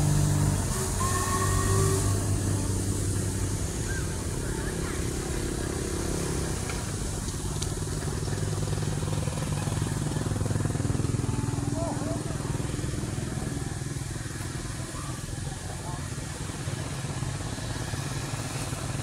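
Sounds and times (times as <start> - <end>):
steam locomotive chugging: 0.0 - 19.0.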